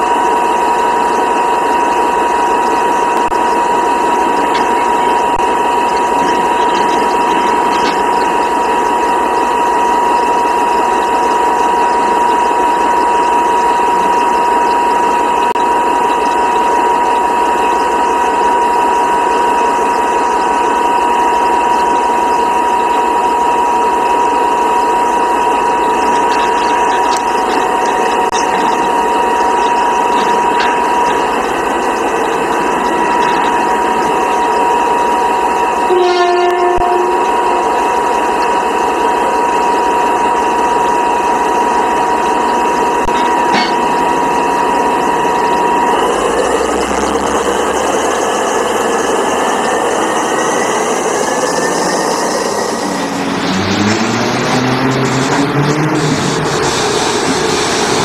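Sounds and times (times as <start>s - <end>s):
heavy machinery noise: 0.0s - 58.0s
steady machine whine: 0.0s - 58.0s.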